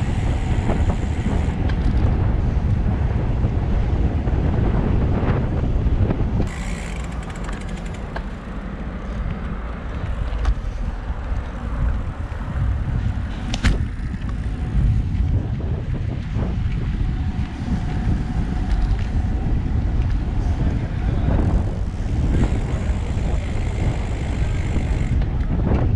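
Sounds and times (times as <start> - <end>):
road rumble: 0.0 - 25.9
wind buffeting microphone: 0.0 - 25.9.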